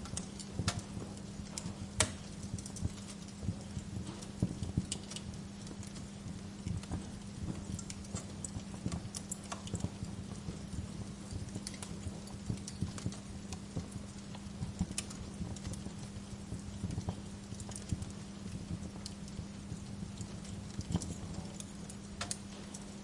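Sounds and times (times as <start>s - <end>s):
low steady hum: 0.0s - 23.0s
wood fire crackling: 0.0s - 23.0s.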